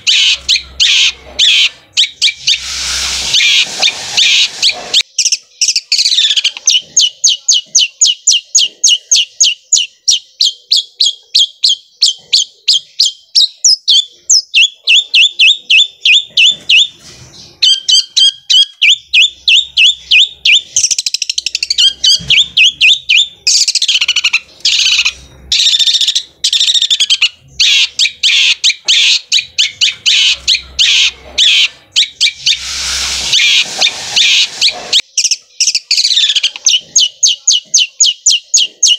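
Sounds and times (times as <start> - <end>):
bird singing rapid notes: 0.0 - 38.9.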